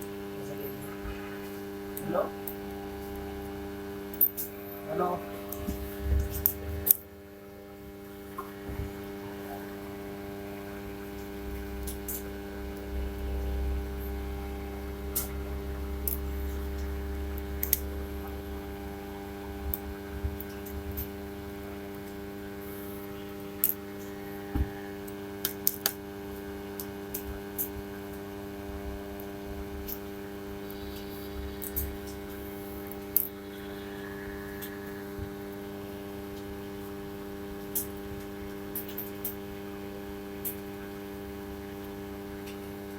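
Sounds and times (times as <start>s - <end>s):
steady electrical hum: 0.0s - 42.9s.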